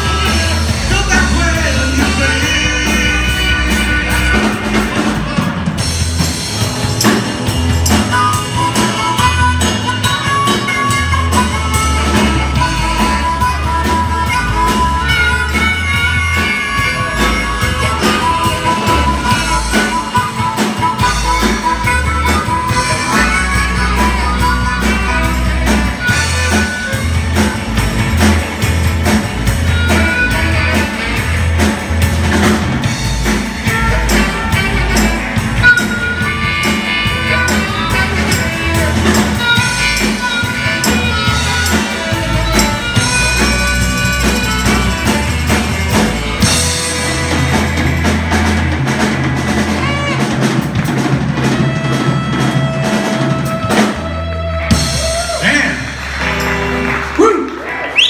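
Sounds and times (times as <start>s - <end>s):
harmonica bending notes: 0.0s - 55.0s
rock band playing: 0.0s - 58.0s.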